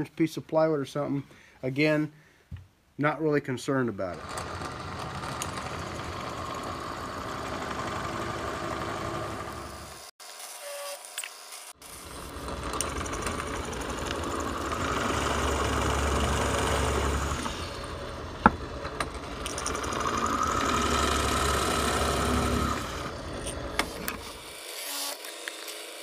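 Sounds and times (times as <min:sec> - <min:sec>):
electric drill boring into wood: 0:04.2 - 0:10.1, 0:11.1 - 0:26.0.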